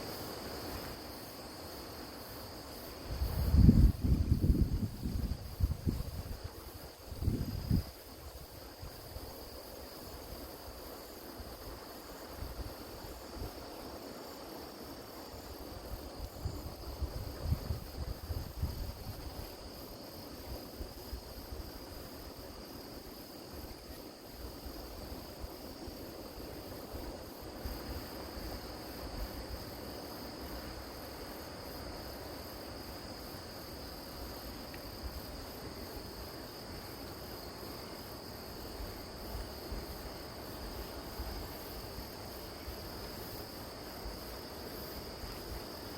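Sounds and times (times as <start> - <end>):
crickets trilling: 0.0 - 45.9
low rumble of wind or surf: 0.0 - 45.9.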